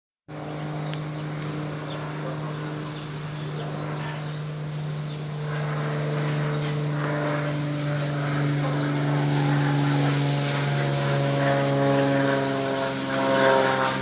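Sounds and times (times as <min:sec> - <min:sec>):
distant propeller aircraft drone: 0:00.3 - 0:14.0
small birds chirping: 0:00.3 - 0:14.0.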